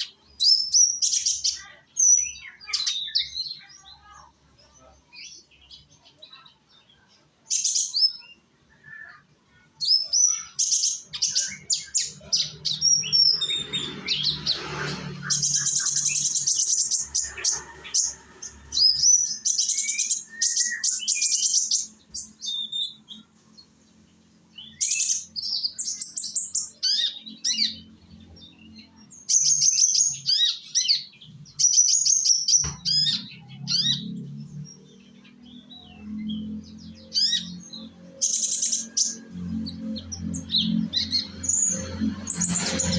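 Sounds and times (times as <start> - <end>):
songbird twittering and trilling: 0.0 - 42.9.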